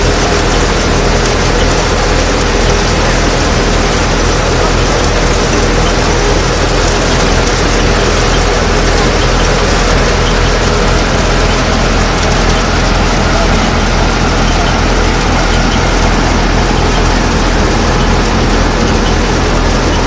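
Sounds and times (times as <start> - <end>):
threshing machine running: 0.0 - 20.0
tractor engine humming: 0.0 - 20.0.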